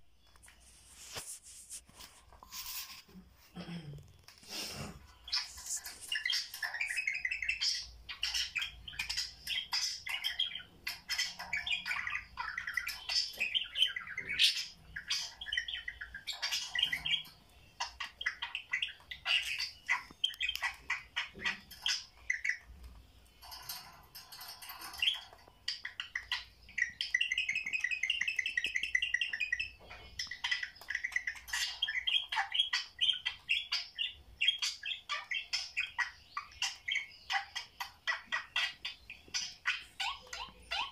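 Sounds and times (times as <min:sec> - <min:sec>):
budgerigars chattering: 0:04.4 - 0:40.9.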